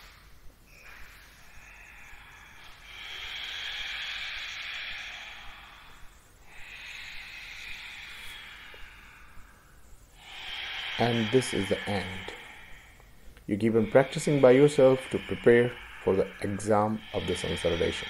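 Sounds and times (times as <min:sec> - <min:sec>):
deep airy breathing: 0:00.0 - 0:18.0.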